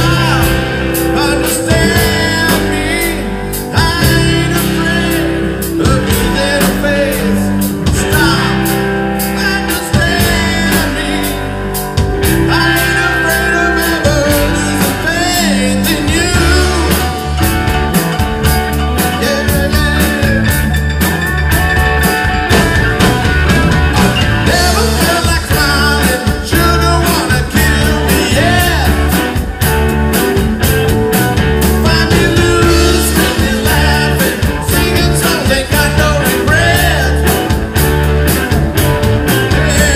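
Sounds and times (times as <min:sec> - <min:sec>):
lead singer singing: 0:00.0 - 0:21.0, 0:23.8 - 0:29.5, 0:31.7 - 0:37.6, 0:39.4 - 0:39.9
drum kit beat: 0:00.0 - 0:39.9
electric guitars: 0:00.0 - 0:39.9.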